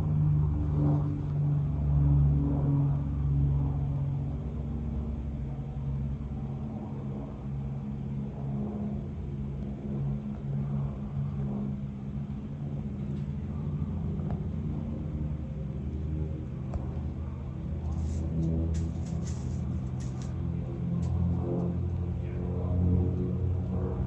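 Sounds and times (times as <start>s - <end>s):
aircraft engine rumble overhead: 0.0s - 24.0s.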